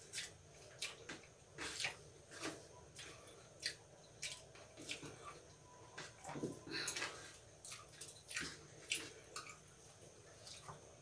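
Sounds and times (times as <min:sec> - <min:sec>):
wet chewing noises: 0:00.0 - 0:11.0.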